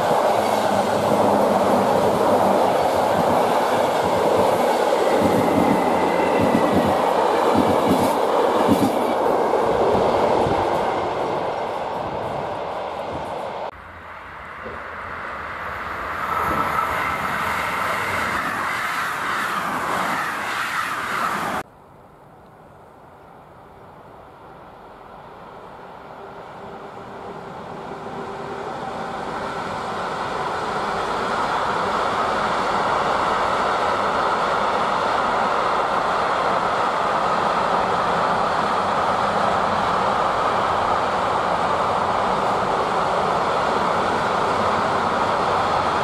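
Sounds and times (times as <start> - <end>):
train approaching: 0.0 - 46.0
train passing: 0.0 - 46.0.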